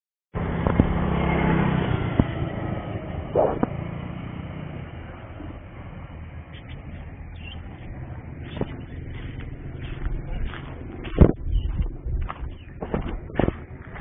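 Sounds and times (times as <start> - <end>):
vehicle engine running: 0.4 - 14.0.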